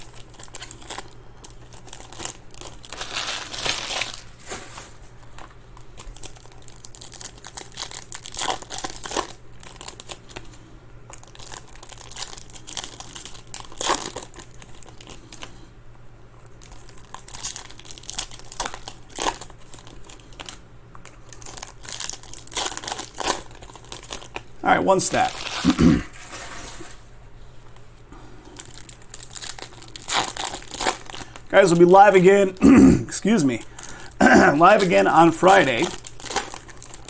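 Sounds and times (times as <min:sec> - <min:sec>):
foil wrappers tearing and crinkling: 0:00.0 - 0:15.6, 0:16.4 - 0:27.1, 0:28.4 - 0:32.6, 0:33.2 - 0:37.0.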